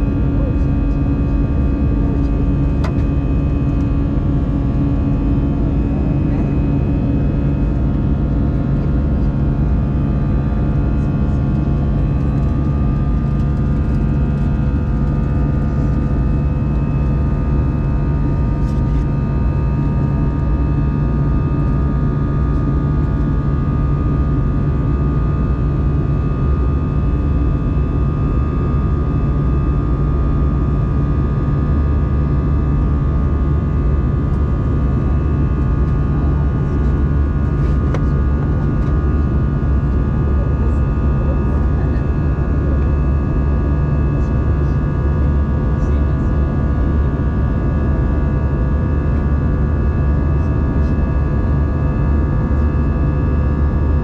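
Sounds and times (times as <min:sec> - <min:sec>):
jet engine drone in cabin: 0:00.0 - 0:54.0.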